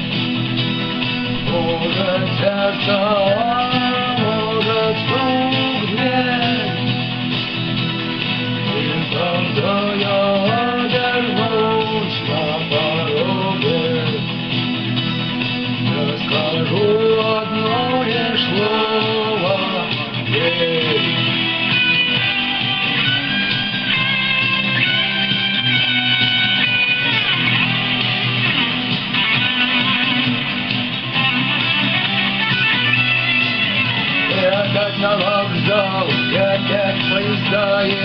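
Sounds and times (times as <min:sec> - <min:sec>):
electric guitar lead melody: 0:00.0 - 0:38.0
rock band backing: 0:00.0 - 0:38.0.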